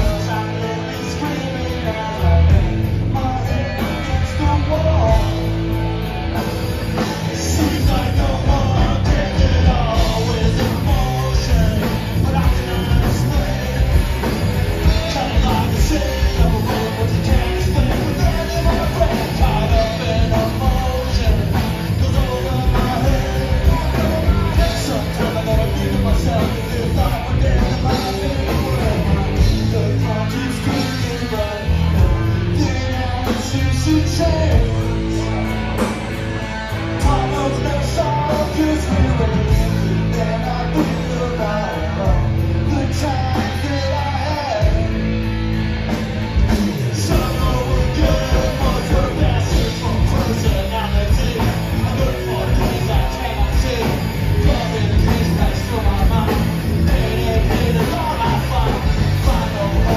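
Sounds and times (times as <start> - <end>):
singer's vocals: 0.0 - 45.3, 46.2 - 59.9
live punk rock band: 0.0 - 59.9.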